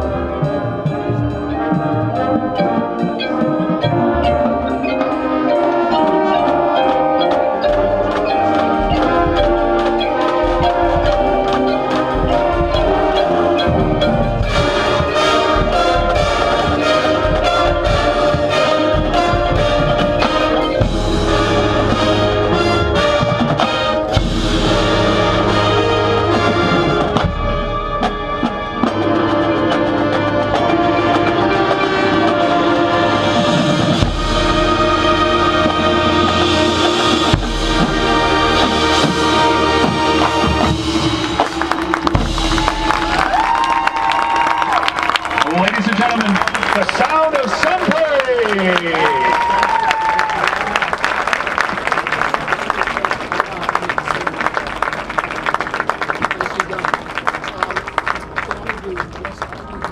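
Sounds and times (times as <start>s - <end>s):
mallet percussion: 0.0s - 53.9s
brass horns: 0.0s - 59.9s
marching percussion: 0.0s - 59.9s.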